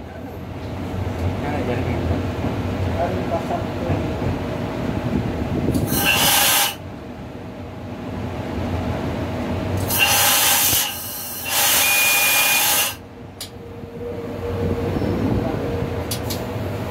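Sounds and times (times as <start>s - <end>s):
low rumble of train: 0.0s - 16.9s.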